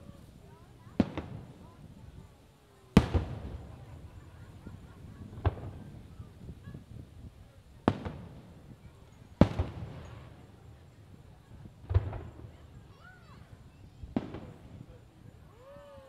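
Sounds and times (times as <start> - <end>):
fireworks booming with echo: 0.0 - 16.0.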